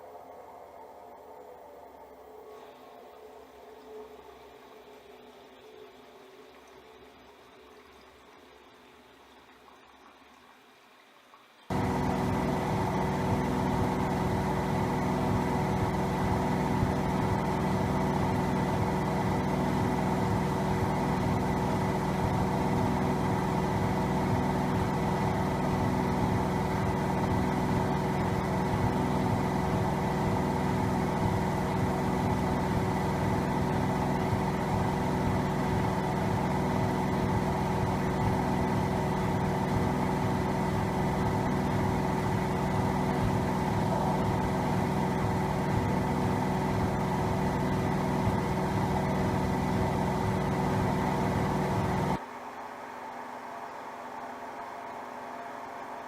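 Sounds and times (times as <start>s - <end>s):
washing machine spin cycle hum: 0.0s - 56.0s.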